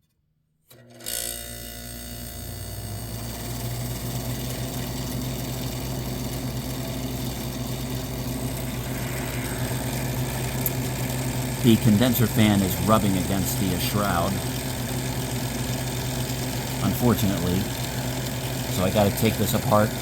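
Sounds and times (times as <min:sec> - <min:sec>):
air conditioner humming: 0:01.9 - 0:20.0.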